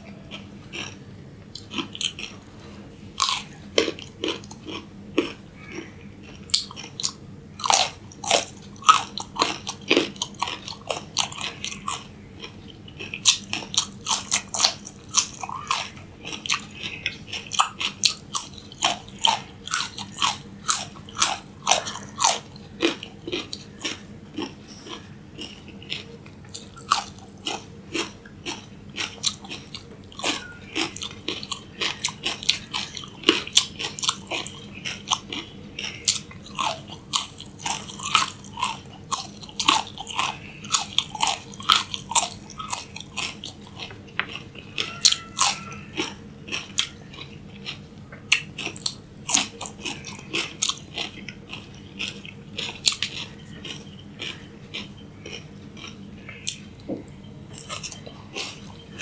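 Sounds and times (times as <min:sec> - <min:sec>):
faint steady hum: 0:00.0 - 0:59.0
crunching raw carrots: 0:03.2 - 0:59.0.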